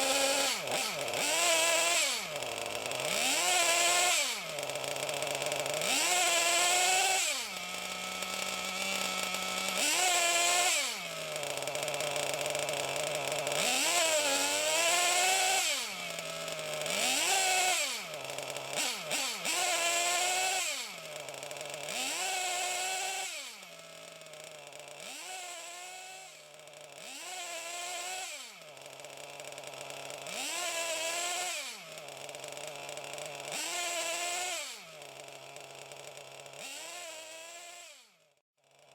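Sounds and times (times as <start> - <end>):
miniature engine revving: 0.0 - 38.9.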